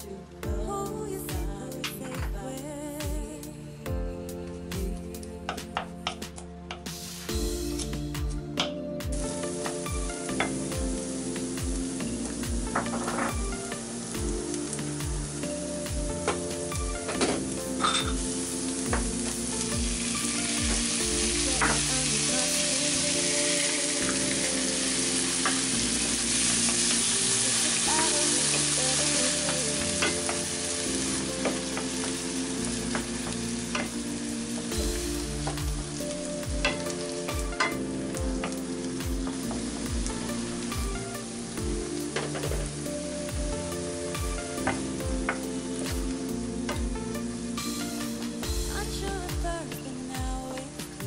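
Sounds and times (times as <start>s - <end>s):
vegetables sizzling in oil: 6.9s - 51.0s.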